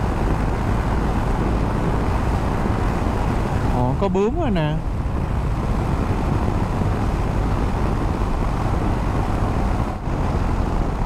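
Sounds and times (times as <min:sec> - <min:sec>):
motorcycle engine riding: 0:00.0 - 0:11.0
wind and road noise: 0:00.0 - 0:11.0.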